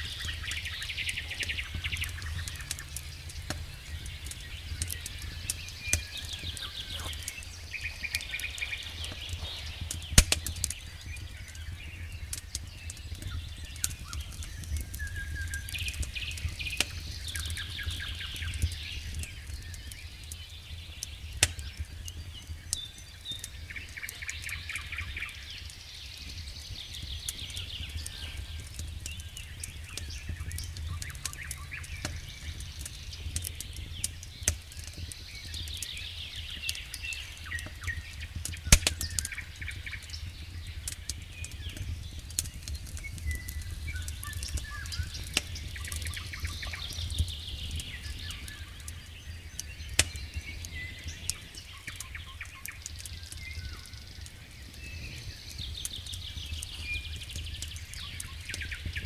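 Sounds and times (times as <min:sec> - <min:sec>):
campfire crackling and popping: 0:00.0 - 0:59.0
loud fire snap: 0:00.0 - 0:59.0
songbirds trilling: 0:00.0 - 0:59.0.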